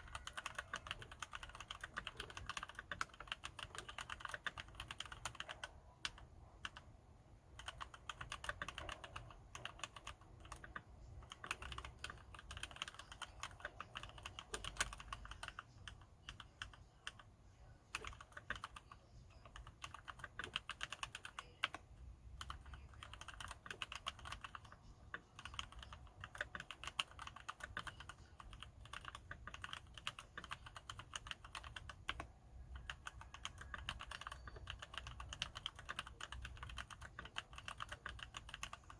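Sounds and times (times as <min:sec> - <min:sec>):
fast typing on mechanical keyboard: 0:00.0 - 0:17.3, 0:17.9 - 0:38.9.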